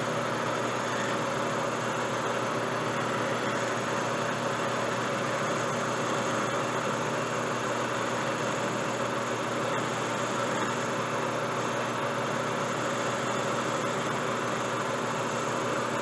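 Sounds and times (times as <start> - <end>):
lathe running: 0.0 - 16.0.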